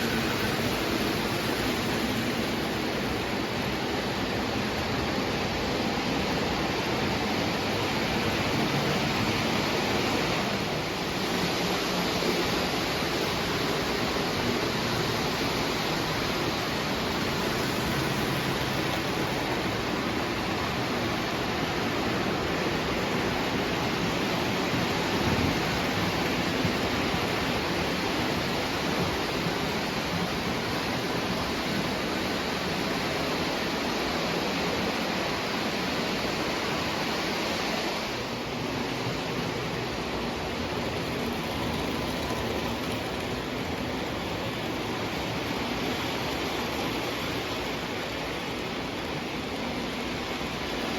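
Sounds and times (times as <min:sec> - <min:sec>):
toy trains rolling on track: 0:00.0 - 0:50.9.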